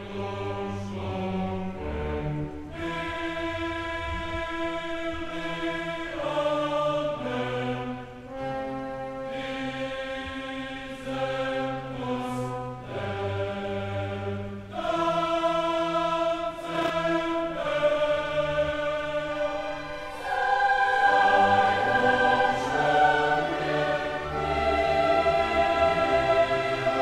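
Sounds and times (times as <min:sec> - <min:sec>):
choir singing slow chords: 0:00.0 - 0:27.0.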